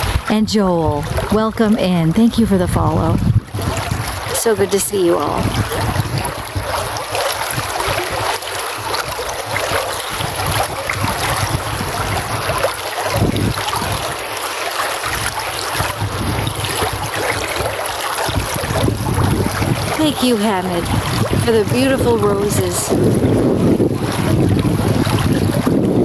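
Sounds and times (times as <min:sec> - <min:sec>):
wind rumble on microphone: 0:00.0 - 0:14.4, 0:15.0 - 0:26.0
running water: 0:00.0 - 0:26.0.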